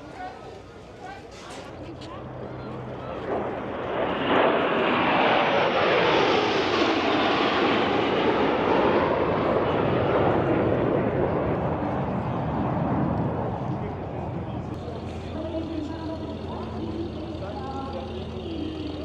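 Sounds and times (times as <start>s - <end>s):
airplane passing overhead: 0.0s - 19.0s.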